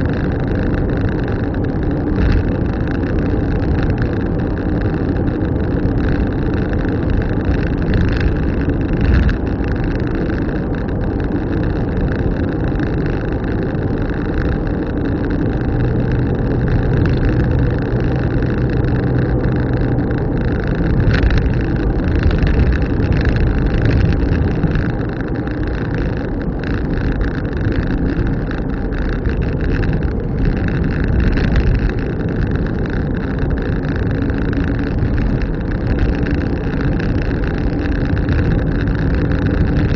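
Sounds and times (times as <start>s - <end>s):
car engine and tyre noise: 0.0s - 39.9s
low hum: 0.0s - 39.9s.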